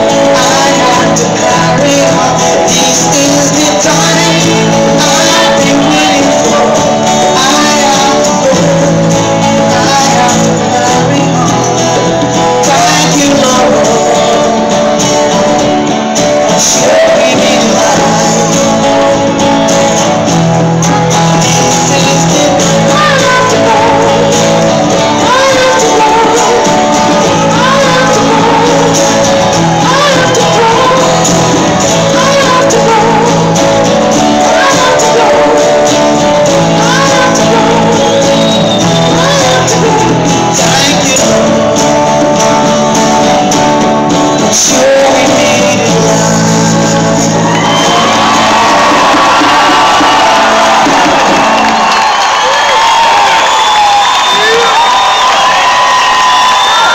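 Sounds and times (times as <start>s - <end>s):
lead singer singing: 0.0s - 56.9s
live band music: 0.0s - 56.9s.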